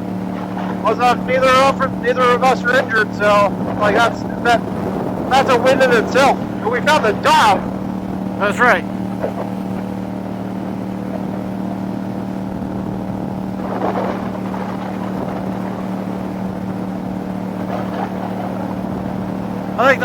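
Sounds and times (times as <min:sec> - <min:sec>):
motorcycle engine cruising: 0:00.0 - 0:20.0
wind rush: 0:00.0 - 0:20.0.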